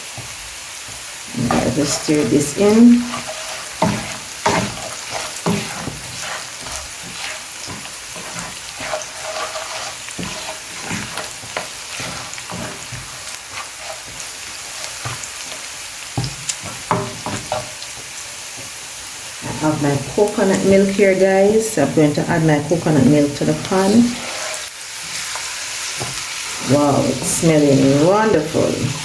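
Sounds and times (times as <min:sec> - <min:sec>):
food sizzling in hot oil: 0:00.0 - 0:29.0
utensil scraping and knocking pan: 0:01.4 - 0:14.4, 0:16.2 - 0:17.7, 0:19.4 - 0:25.2, 0:26.0 - 0:29.0.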